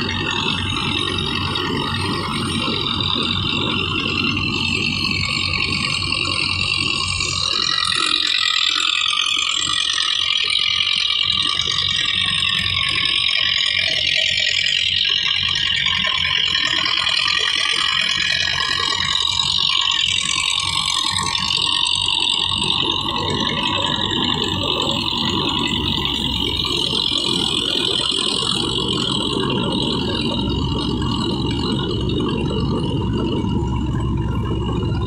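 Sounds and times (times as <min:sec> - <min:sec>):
thresher rattle and whir: 0:00.0 - 0:35.0
tractor diesel engine running: 0:00.0 - 0:35.0.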